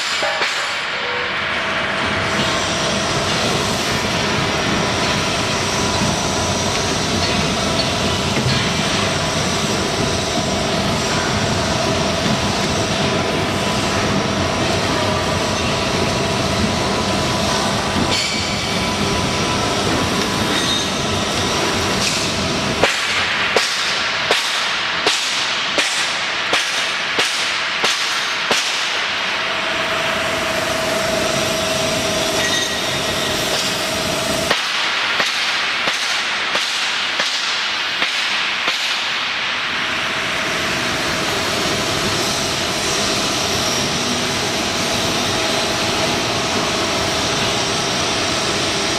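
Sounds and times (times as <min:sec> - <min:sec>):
factory machinery running: 0:00.0 - 0:48.9.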